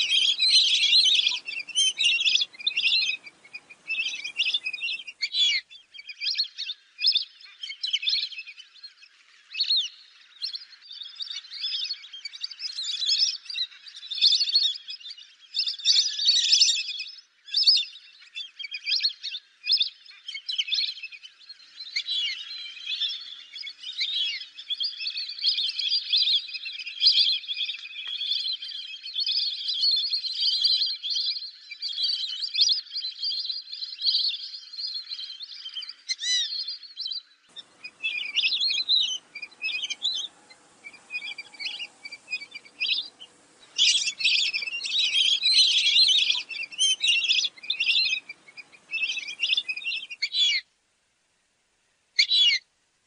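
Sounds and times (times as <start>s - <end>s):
ducks whistling in chorus: 0.0s - 50.7s, 52.2s - 52.6s
faint background noise: 0.0s - 53.0s.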